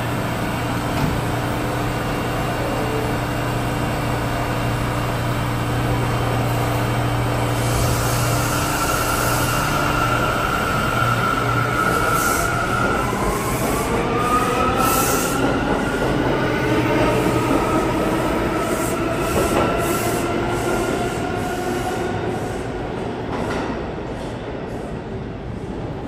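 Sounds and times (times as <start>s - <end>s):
subway train humming: 0.0s - 26.0s.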